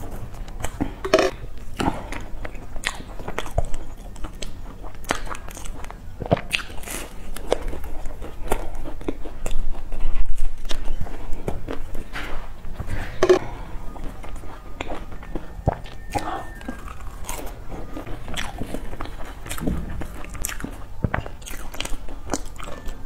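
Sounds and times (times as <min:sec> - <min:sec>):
crunchy pastry eating: 0:00.0 - 0:23.0.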